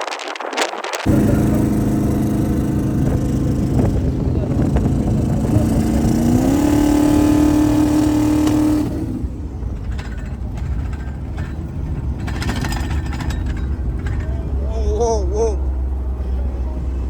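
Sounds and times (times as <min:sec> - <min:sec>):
engine accelerating: 0:01.0 - 0:17.0.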